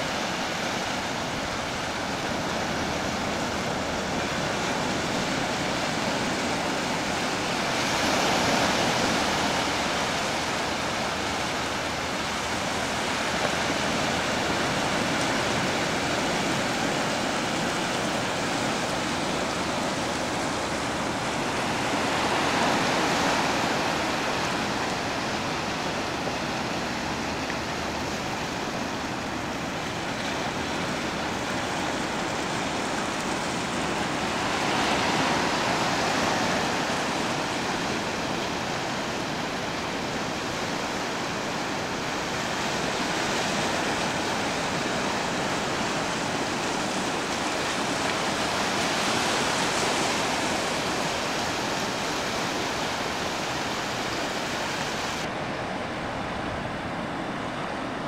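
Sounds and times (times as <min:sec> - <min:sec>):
ocean surf over rocks: 0:00.0 - 0:58.0.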